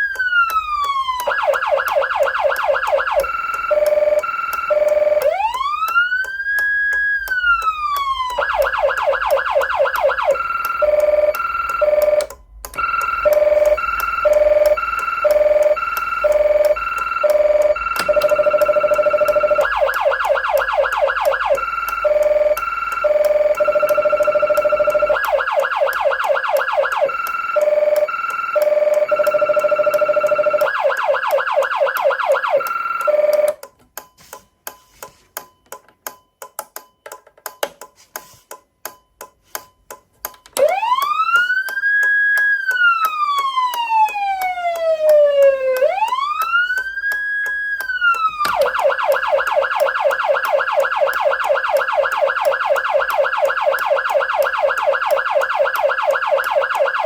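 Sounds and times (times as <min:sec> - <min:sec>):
siren yelp sweeps: 0:00.0 - 0:12.2, 0:12.8 - 0:33.5, 0:40.6 - 0:57.0
siren wail: 0:00.0 - 0:33.6, 0:40.6 - 0:57.0
two-tone hi-lo siren: 0:00.0 - 0:33.6, 0:40.6 - 0:57.0.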